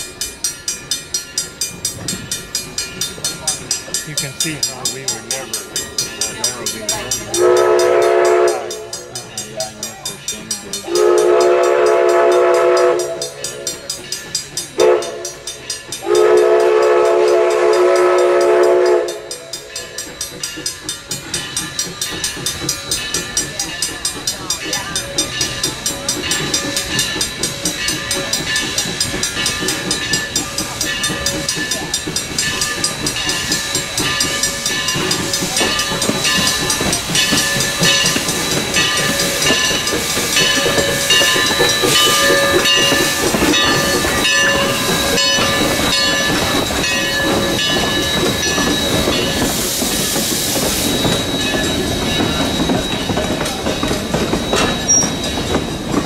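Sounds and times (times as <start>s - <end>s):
steam hissing: 0.0s - 56.0s
steam locomotive clanking: 0.0s - 56.0s.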